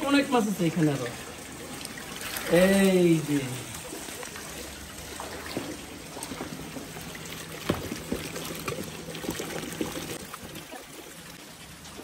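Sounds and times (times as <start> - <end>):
shallow water trickling: 0.0 - 12.0
small water splashes: 0.0 - 12.0.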